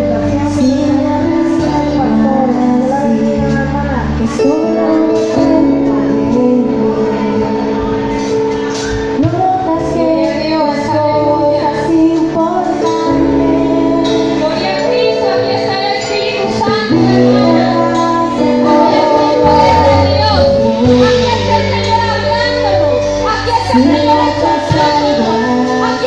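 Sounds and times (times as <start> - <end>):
voices singing over chords: 0.0 - 26.0.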